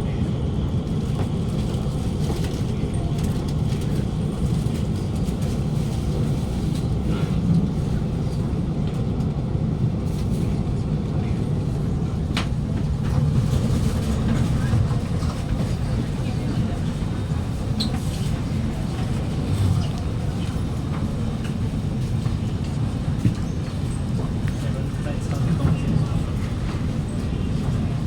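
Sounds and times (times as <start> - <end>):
train air-conditioning hum: 0.0 - 28.0.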